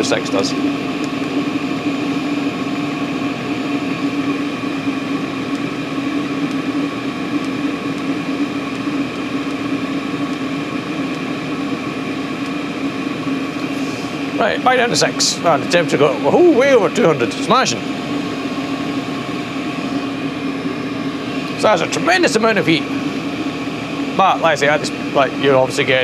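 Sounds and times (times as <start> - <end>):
air heater whirring hum: 0.0 - 26.0.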